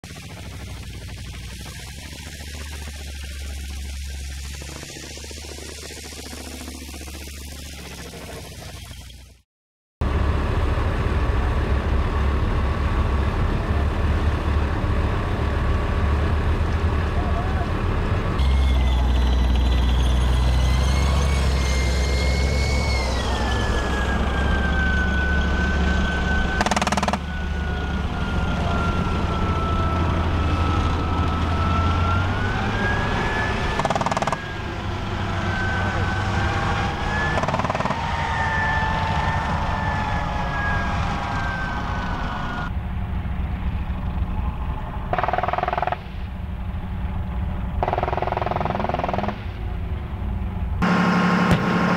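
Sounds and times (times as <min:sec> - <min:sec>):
high steady whine: 0:00.0 - 0:09.4, 0:10.0 - 0:51.9
tank engine rumble: 0:00.0 - 0:09.4, 0:10.0 - 0:51.9.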